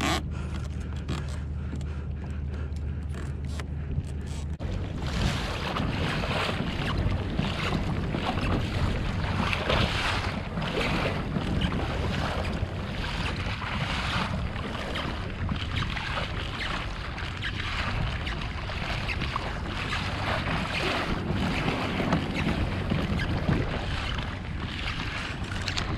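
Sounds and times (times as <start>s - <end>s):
water splashing along kayak hull: 0.0s - 25.9s
wind buffeting microphone: 0.0s - 25.9s.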